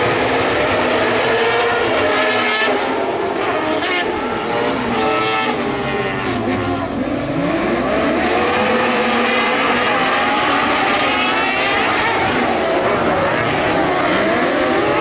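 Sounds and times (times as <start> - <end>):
buggy engines revving: 0.0 - 15.0.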